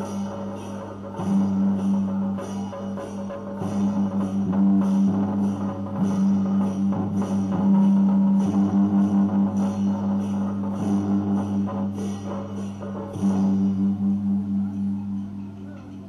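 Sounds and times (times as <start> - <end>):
drums keeping a steady beat: 0.0 - 16.0
held low note: 0.0 - 16.0.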